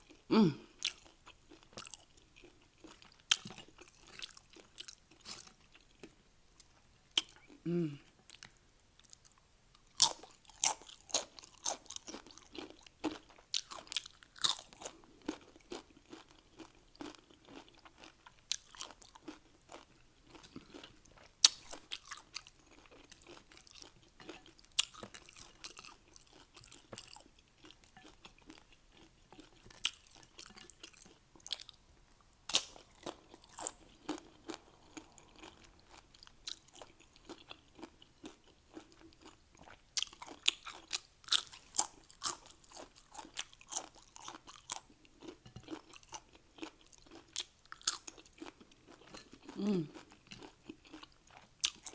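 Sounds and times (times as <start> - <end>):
chewing crunchy chips: 0.0 - 51.9.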